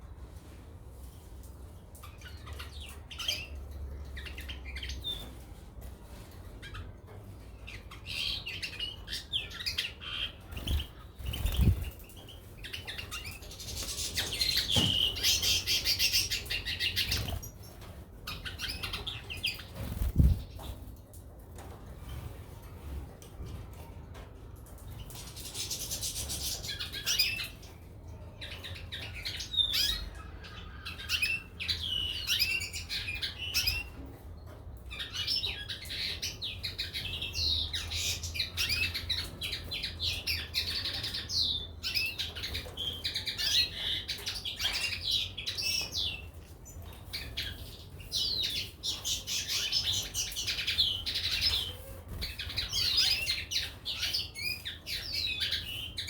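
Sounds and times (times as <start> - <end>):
finches chirping and twittering: 2.0 - 5.4, 7.6 - 20.9, 24.9 - 34.0, 34.9 - 56.0.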